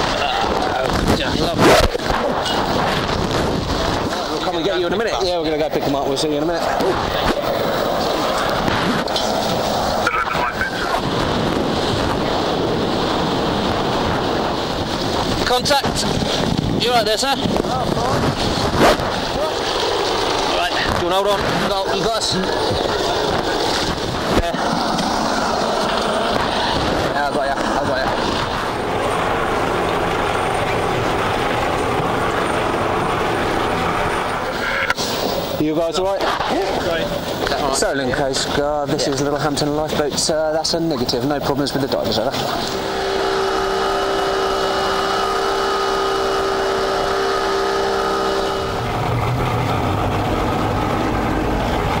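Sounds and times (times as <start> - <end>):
constant rushing noise: 0.0 - 52.0
outboard engines running: 0.0 - 52.0
wind: 0.0 - 52.0.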